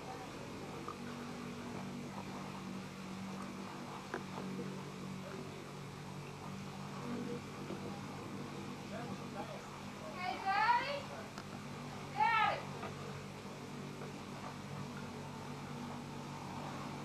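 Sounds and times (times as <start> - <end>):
faint distant voices: 0.0 - 17.0
steady low hum: 0.0 - 17.0.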